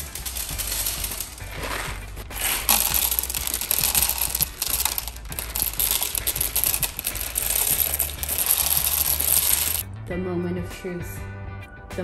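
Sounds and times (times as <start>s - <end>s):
coffee beans rattling into plastic hopper: 0.0s - 9.8s.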